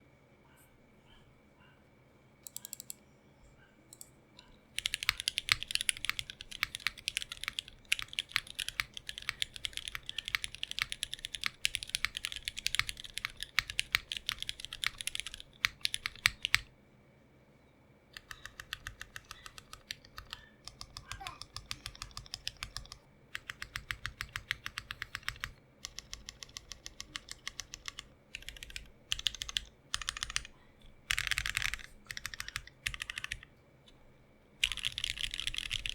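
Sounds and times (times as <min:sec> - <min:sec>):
mechanical keyboard typing: 0:02.4 - 0:03.0, 0:04.8 - 0:16.7, 0:18.2 - 0:33.5, 0:34.6 - 0:35.9.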